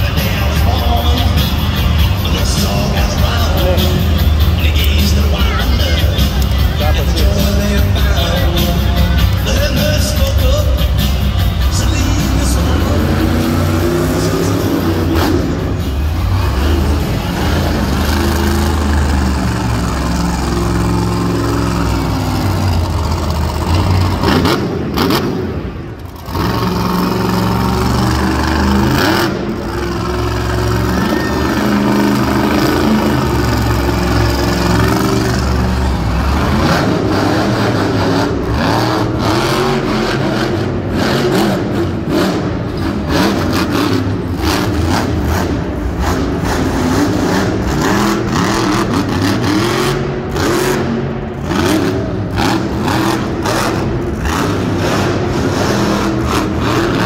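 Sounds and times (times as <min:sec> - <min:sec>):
monster truck engine revving: 0:00.0 - 0:57.0.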